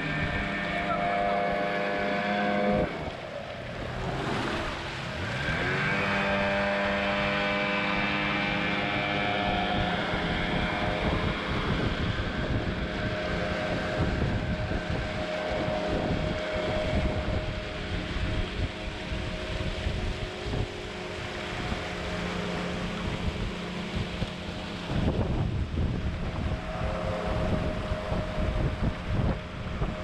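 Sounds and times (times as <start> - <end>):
outboard motor running: 0.0 - 30.0
water rushing past hull: 0.0 - 30.0
wind buffeting microphone: 0.0 - 30.0.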